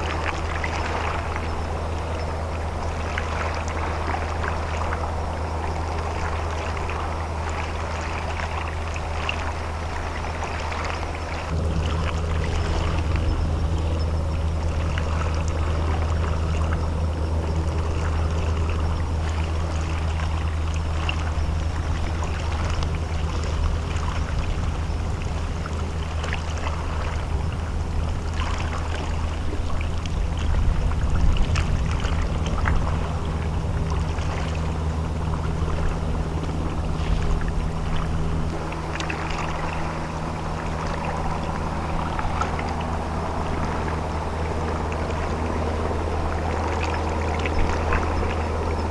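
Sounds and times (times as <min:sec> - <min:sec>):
boat engine humming: 0:00.0 - 0:48.9
faint water noise: 0:00.0 - 0:48.9.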